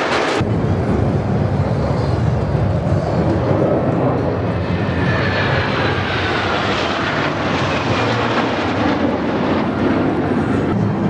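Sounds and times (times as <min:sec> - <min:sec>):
jets flying overhead: 0:00.0 - 0:11.0.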